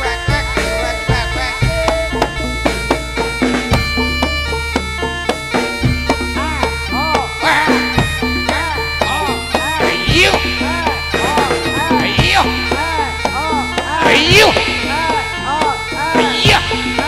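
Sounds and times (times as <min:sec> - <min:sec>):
drum: 0:00.0 - 0:17.0
ringing metallophone tones: 0:00.0 - 0:17.0
shrill reed horn melody: 0:00.0 - 0:17.0.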